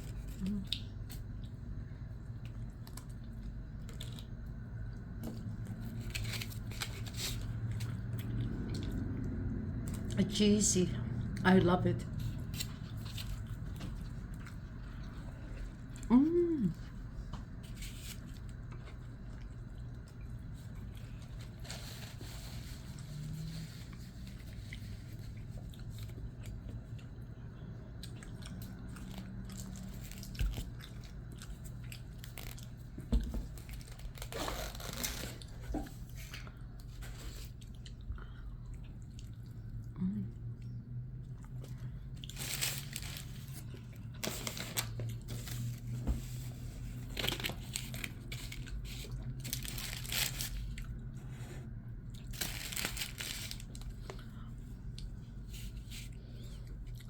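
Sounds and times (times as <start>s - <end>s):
person chewing and crunching food: 0.0s - 10.2s, 12.1s - 57.0s
steady low hum: 0.0s - 57.0s.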